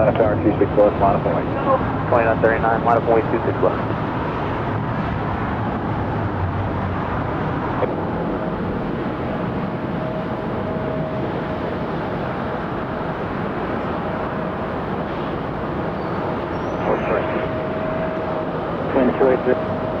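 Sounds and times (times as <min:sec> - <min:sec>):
faint steady whine: 0:00.0 - 0:20.0
jet engine noise: 0:00.0 - 0:20.0.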